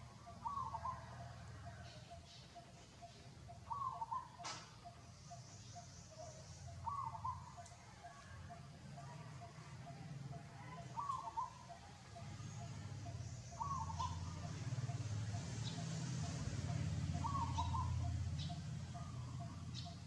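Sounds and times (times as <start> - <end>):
regular chirping: 0.0 - 20.0.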